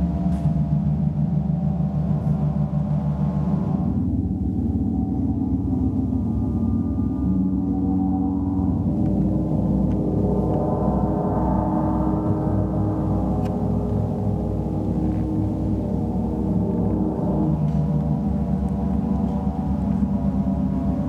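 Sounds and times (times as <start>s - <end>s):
large gongs ringing: 0.0s - 21.0s.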